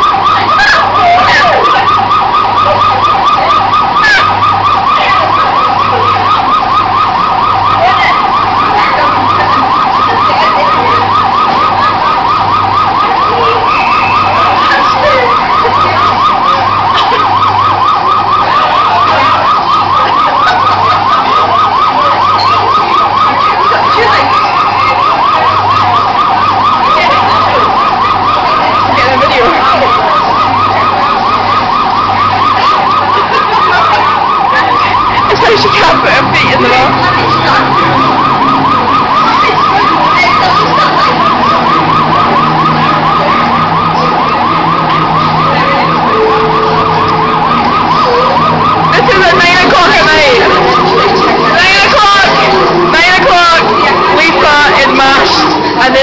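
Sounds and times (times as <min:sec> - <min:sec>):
electronic siren warble: 0:00.0 - 0:56.0.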